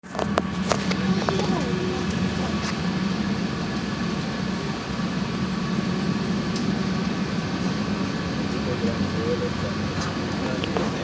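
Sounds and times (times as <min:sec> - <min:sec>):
aircraft cabin rushing hum: 0:00.0 - 0:11.0
low drone: 0:00.0 - 0:11.0.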